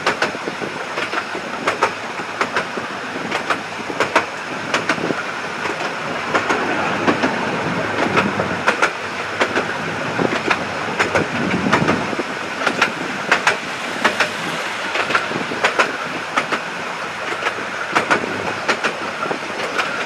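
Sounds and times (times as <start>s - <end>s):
train carriage rumbling on track: 0.0s - 20.0s
wheels clicking over rail joints: 0.0s - 20.0s.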